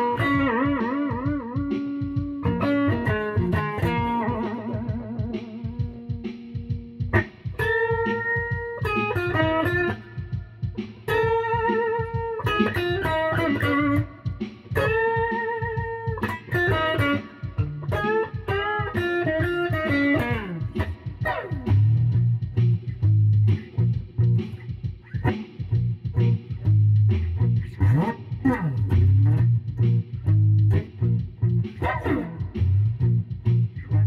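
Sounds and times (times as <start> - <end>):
electric guitar solo: 0.0 - 22.9, 27.4 - 34.0.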